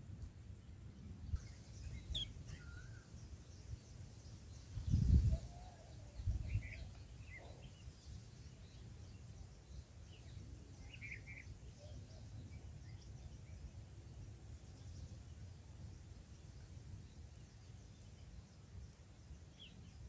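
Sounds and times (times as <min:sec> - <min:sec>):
faint bird chirps: 0:00.9 - 0:20.0.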